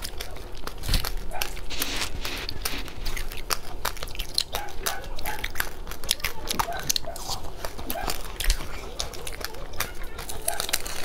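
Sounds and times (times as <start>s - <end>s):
chewing with crunches: 0.0s - 11.0s.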